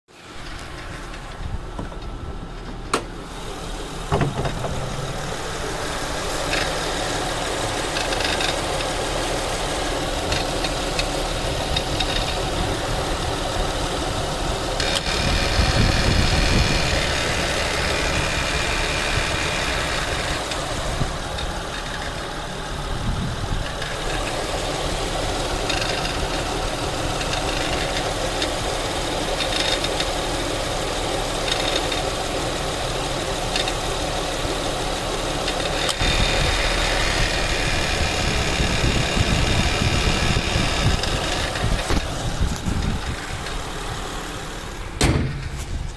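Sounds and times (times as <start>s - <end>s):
car engine idling: 0.1s - 45.9s
engine belt rattle: 0.1s - 45.9s.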